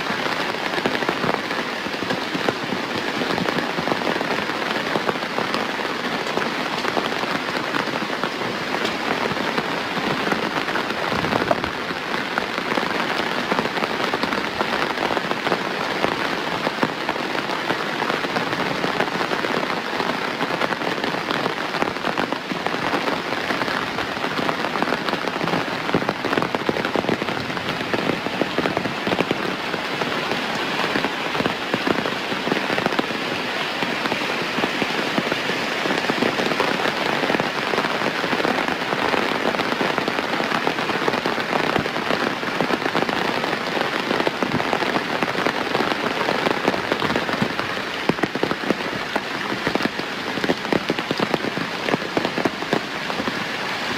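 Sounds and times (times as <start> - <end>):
rain pattering: 0.0 - 53.9.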